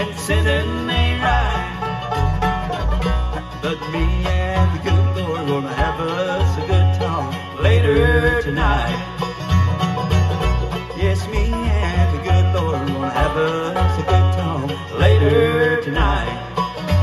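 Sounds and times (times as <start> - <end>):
acoustic guitar: 0.0 - 17.0
banjo: 0.0 - 17.0
dobro sliding lead notes: 0.0 - 17.0
mandolin: 0.0 - 17.0
upright bass pulse: 0.0 - 17.0.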